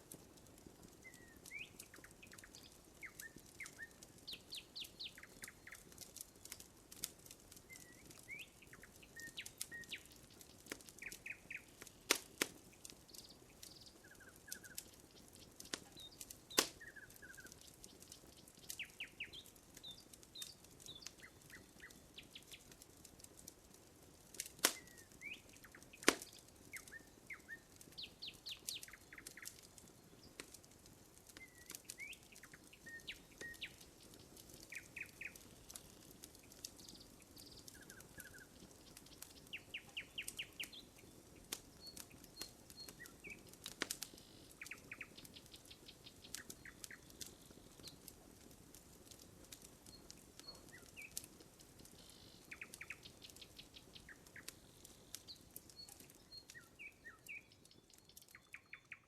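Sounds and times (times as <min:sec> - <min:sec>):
campfire crackling and popping: 0:00.0 - 0:59.0
small birds chirping: 0:00.1 - 0:59.0.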